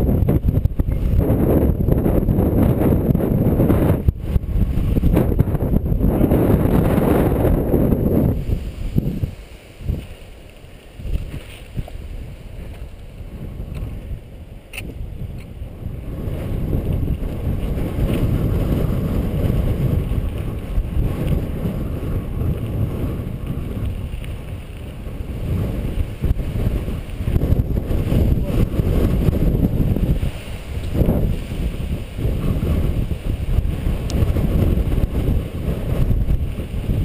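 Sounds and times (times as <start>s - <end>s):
bike tyres rumbling over gravel: 0.0s - 37.0s
wind buffeting microphone: 0.0s - 37.0s.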